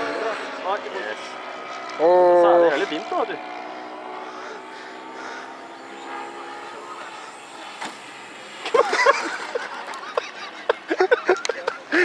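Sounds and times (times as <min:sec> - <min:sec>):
model plane electric motor: 0:00.0 - 0:10.5.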